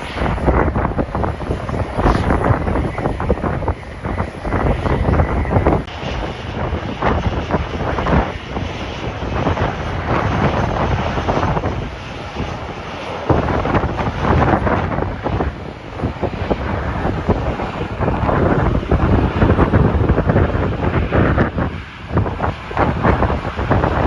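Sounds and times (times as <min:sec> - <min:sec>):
gusty wind buffeting microphone: 0:00.0 - 0:24.0.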